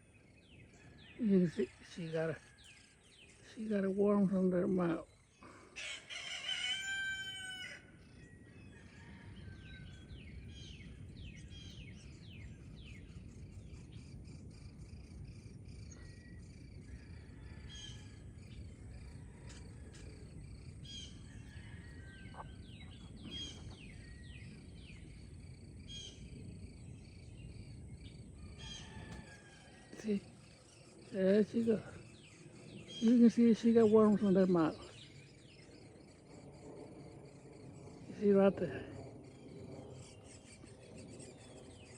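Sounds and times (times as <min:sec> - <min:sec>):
birds chirping: 0:00.0 - 0:41.9
low outdoor background: 0:00.0 - 0:41.9.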